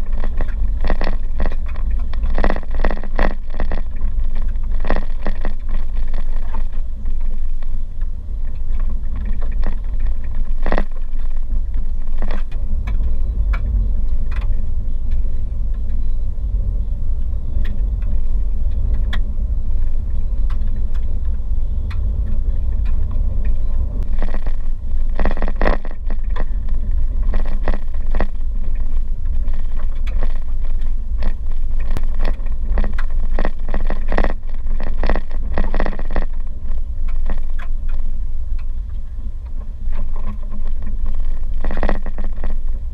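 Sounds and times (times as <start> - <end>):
tyres rumbling on gravel: 0.0 - 42.9.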